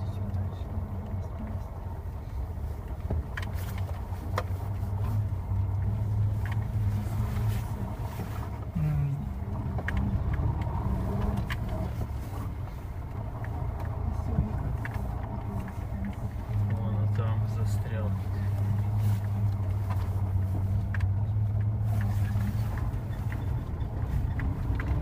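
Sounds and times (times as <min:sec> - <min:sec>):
car engine humming: 0:00.0 - 0:25.0
car knocks and rattles: 0:02.5 - 0:25.0.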